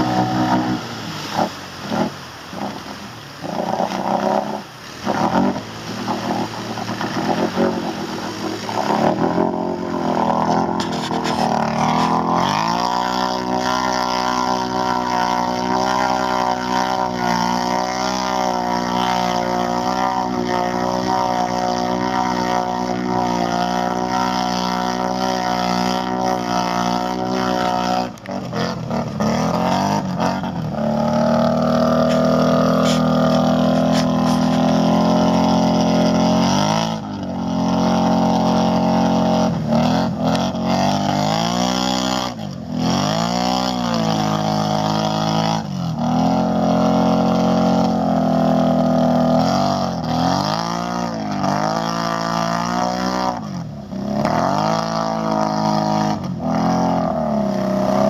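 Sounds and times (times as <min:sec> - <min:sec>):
quad engine revving: 0:00.0 - 0:58.0
wheels spinning in mud: 0:00.0 - 0:58.0.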